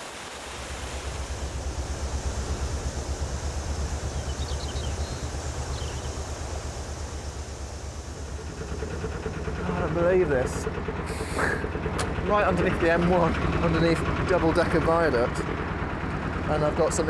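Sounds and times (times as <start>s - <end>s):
boat engine idling: 0.4s - 17.0s.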